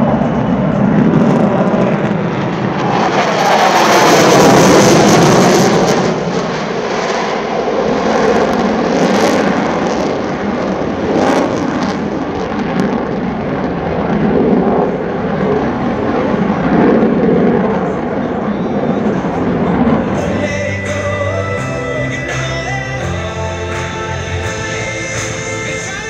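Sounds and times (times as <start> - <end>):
jet flying overhead: 0.0 - 22.4.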